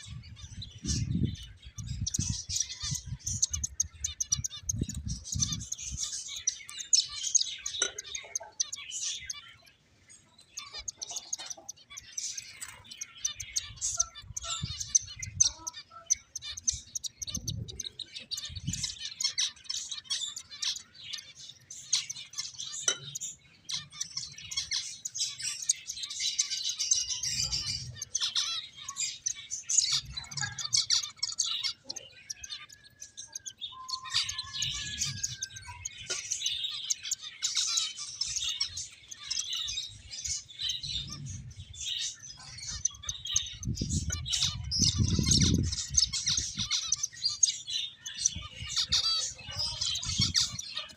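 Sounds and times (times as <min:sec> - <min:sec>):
finches chirping: 0:00.0 - 0:50.9.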